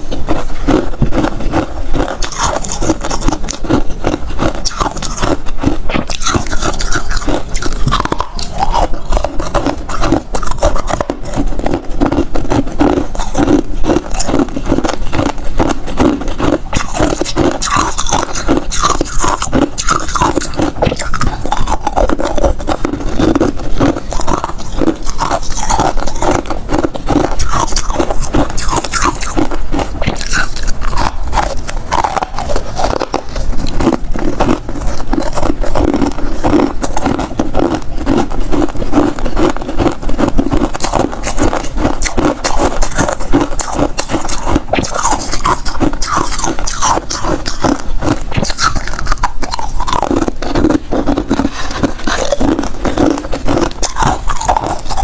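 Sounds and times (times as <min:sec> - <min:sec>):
chewing and crunching ice: 0:00.0 - 0:55.0.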